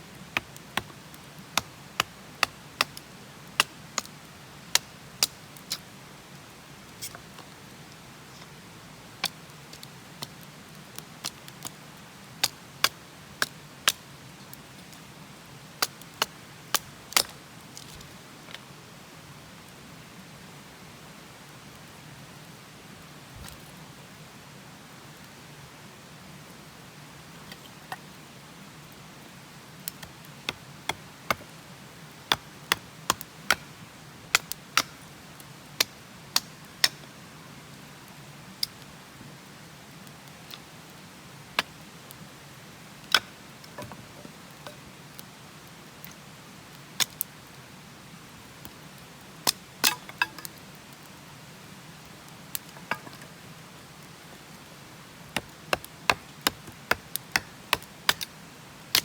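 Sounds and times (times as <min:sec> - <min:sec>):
wood fire crackling: 0:00.0 - 0:25.6, 0:26.2 - 0:59.0.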